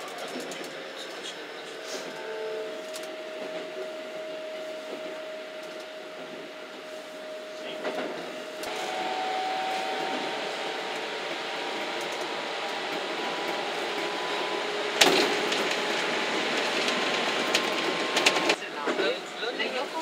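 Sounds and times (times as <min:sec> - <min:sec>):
electric train running: 0:00.0 - 0:20.0.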